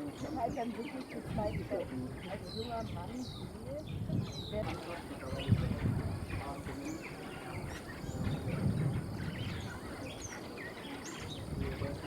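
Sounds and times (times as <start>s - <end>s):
birds chirping: 0.0s - 12.0s
faint voices: 0.0s - 12.0s
low rumbling background noise: 0.0s - 12.0s.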